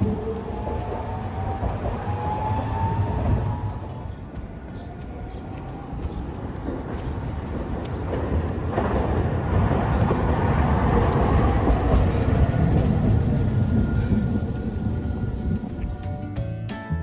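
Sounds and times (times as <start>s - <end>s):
tram passing on rails: 0.0s - 16.9s.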